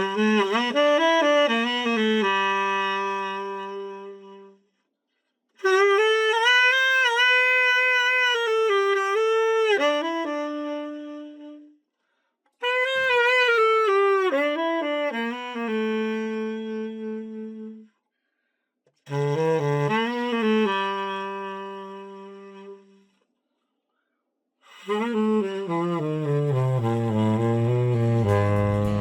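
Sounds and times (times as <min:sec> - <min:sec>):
tenor saxophone melody: 0:00.0 - 0:04.6, 0:05.6 - 0:11.8, 0:12.6 - 0:17.9, 0:19.1 - 0:23.1, 0:24.7 - 0:29.0.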